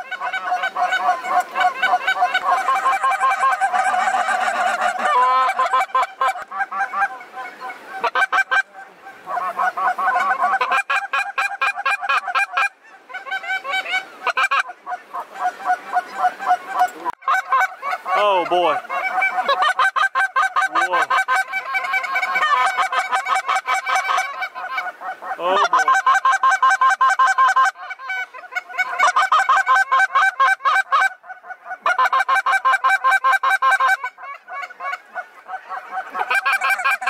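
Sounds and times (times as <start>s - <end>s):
snow geese honking and yelping: 0.0s - 37.0s.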